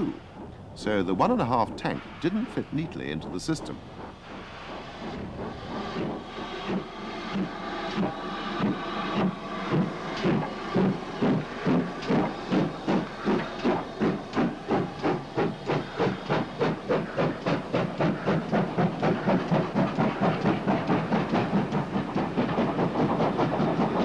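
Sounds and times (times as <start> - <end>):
steam locomotive exhaust chuffing: 0.0 - 24.0.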